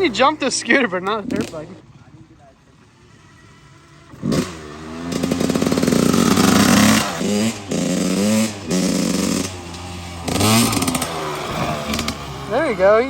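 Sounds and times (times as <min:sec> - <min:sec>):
dirt bike revving: 0:00.0 - 0:13.0.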